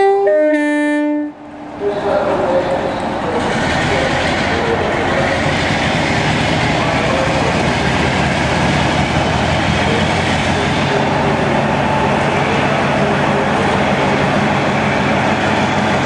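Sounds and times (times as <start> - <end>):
diesel locomotive engine under power: 0.0 - 16.0
rail noise: 0.0 - 16.0.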